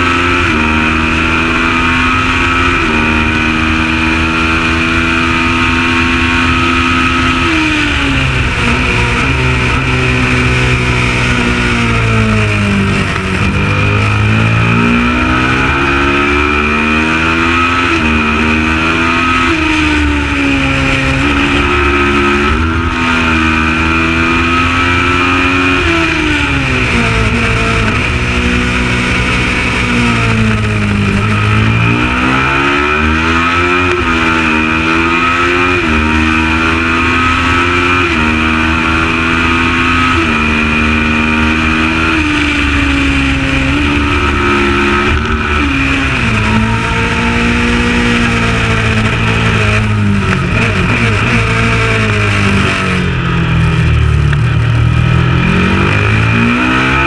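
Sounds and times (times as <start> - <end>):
race motorcycle engine revving: 0.0 - 57.0.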